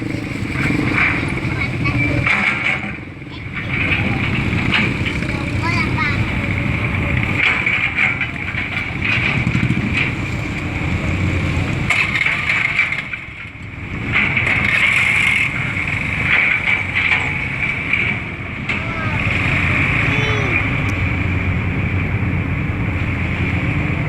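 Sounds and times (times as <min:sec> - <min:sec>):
large engine running: 0:00.0 - 0:24.0.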